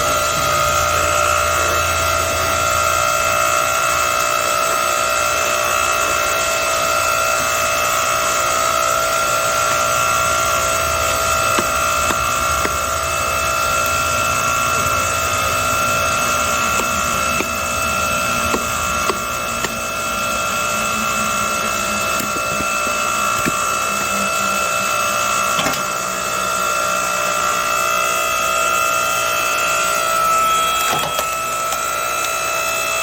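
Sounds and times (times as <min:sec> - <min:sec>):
log splitter whine: 0:00.0 - 0:33.0.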